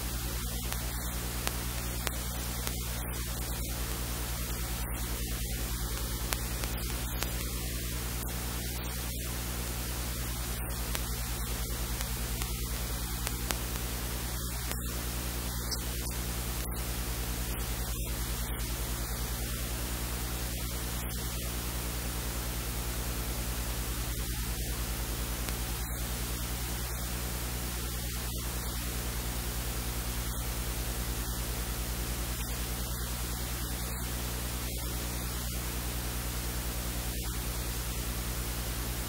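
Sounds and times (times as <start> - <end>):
electrical mains hum: 0.0 - 39.0
static hiss: 0.0 - 39.0.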